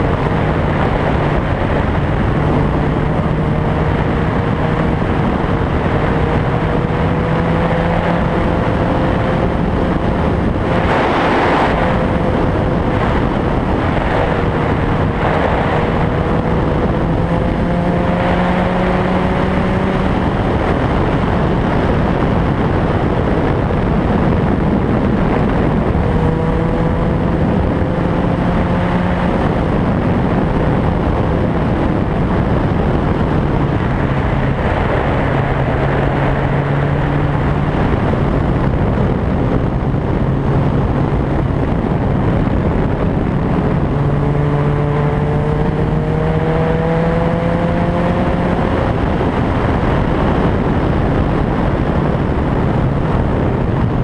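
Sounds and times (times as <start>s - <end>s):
vehicle engine revving: 0.0s - 54.0s
wind and road noise: 0.0s - 54.0s.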